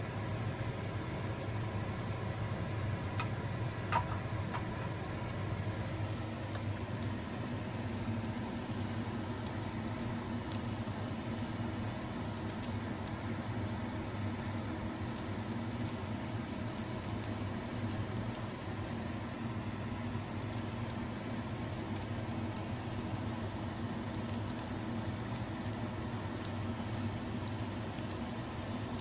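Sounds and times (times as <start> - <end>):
food crackling in a pot: 0.0 - 29.0.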